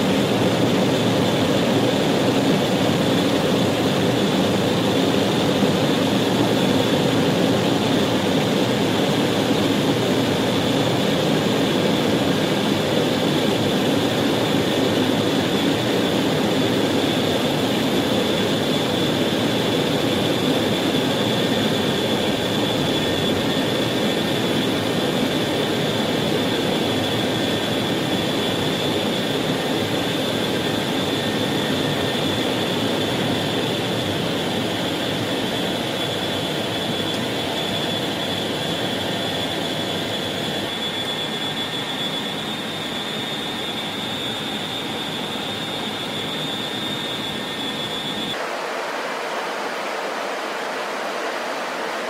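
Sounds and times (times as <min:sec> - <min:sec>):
loud jet engine noise: 0:00.0 - 0:52.0
thin high whine: 0:00.0 - 0:52.0.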